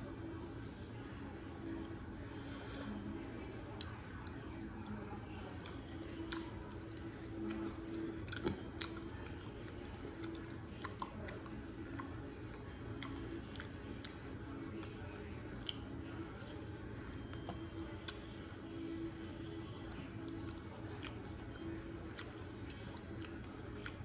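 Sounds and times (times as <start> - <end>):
person chewing soft food: 3.7 - 24.0.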